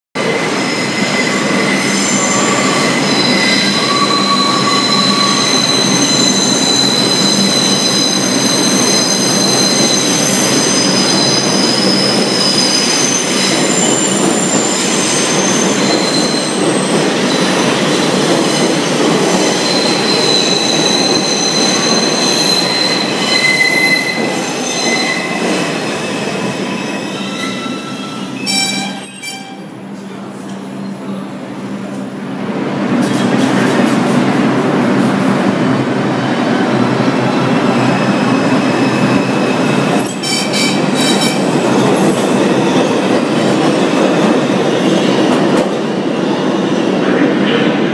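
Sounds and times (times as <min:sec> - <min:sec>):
subway wheels squealing: 0:00.2 - 0:31.8, 0:35.0 - 0:47.9
rumble of subway cars: 0:00.2 - 0:47.9.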